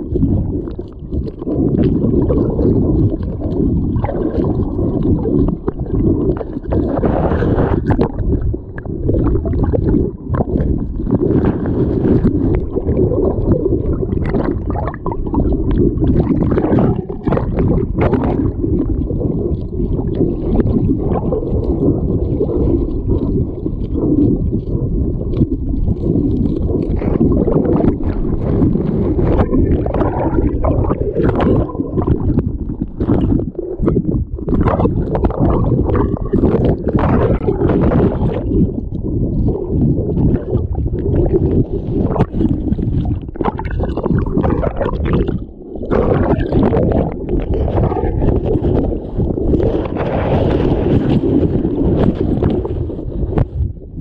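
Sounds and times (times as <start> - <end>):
muffled river water sloshing: 0.0 - 52.7.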